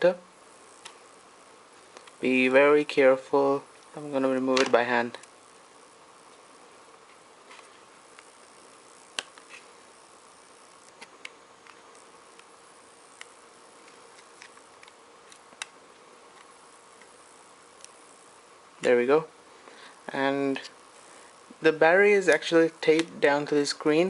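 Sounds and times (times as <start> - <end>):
low hiss with faint hum: 0.0 - 24.0.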